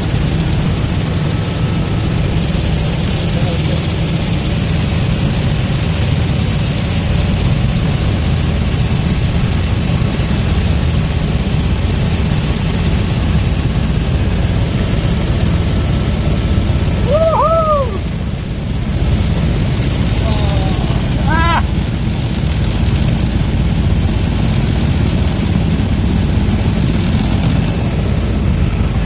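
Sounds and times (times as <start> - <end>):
helicopter engine and rotor drone: 0.0 - 29.0.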